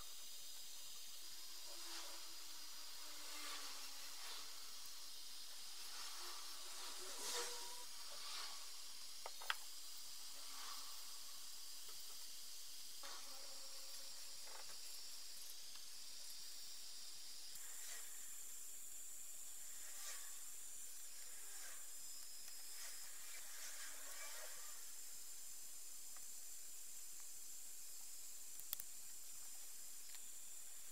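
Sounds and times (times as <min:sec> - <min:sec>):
steady hiss: 0:00.0 - 0:30.9.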